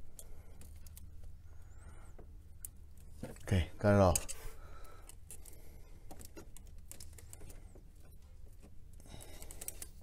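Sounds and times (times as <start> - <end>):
hands clicking and scratching hoses: 0.0 - 1.4, 2.1 - 10.0
steady low hum: 0.0 - 10.0.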